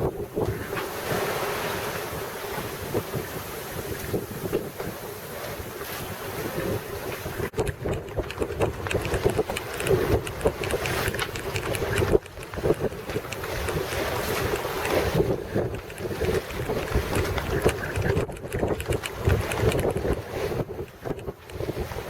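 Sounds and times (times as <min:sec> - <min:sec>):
water splashing along hull: 0:00.0 - 0:22.0
wind buffeting microphone: 0:00.0 - 0:22.0.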